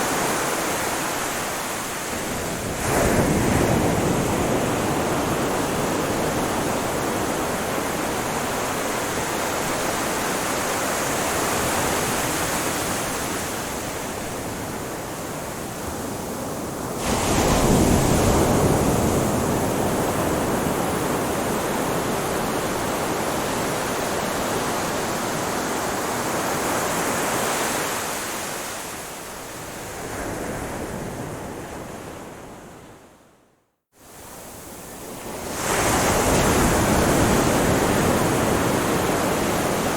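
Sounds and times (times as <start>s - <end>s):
waves washing on shore: 0.0s - 32.4s, 34.0s - 39.9s.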